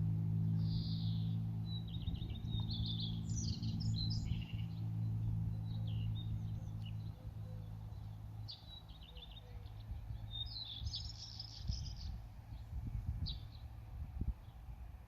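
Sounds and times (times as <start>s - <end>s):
low rumble: 0.0s - 15.0s
songbirds chirping and trilling: 0.0s - 15.0s.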